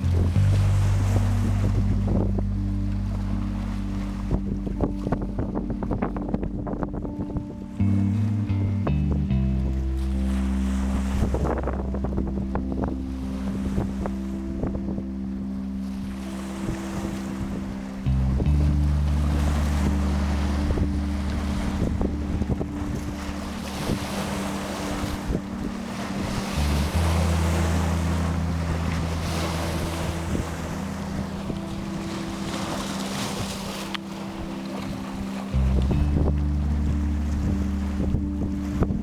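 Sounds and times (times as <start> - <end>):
low sustained drone tones: 0.0 - 39.0
sea waves washing in: 0.0 - 39.0
wind buffeting microphone: 0.0 - 39.0.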